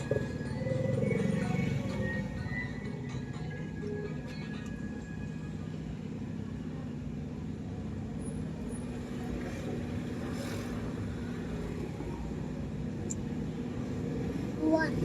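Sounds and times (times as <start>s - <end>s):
low traffic engine hum: 0.0s - 15.0s.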